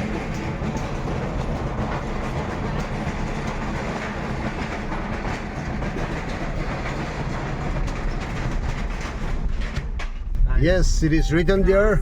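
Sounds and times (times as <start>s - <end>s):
vehicle rumble and rattle: 0.0s - 10.6s.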